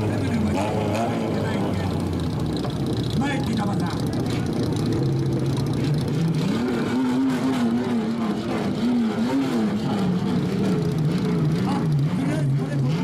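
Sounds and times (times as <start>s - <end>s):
car engine revving rhythmically: 0.0s - 13.0s.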